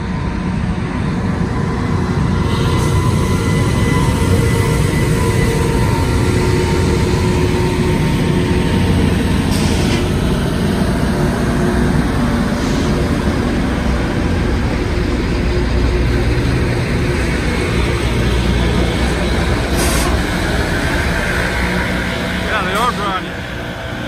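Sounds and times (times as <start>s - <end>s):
rail grinder train engines: 0.0s - 24.0s.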